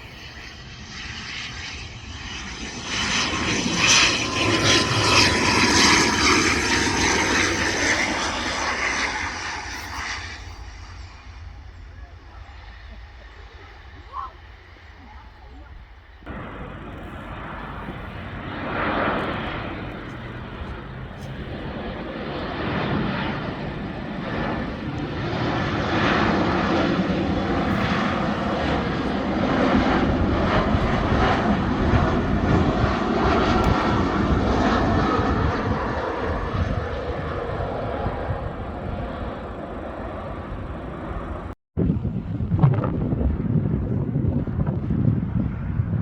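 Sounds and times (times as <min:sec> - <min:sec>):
airliner engines roaring: 0:00.0 - 0:46.0.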